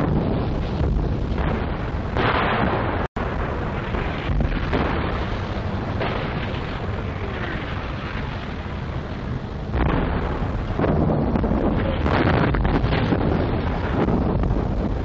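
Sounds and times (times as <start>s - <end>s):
loud artillery blasts: 0.0s - 15.0s
rumble of shell bursts and gunfire: 0.0s - 15.0s.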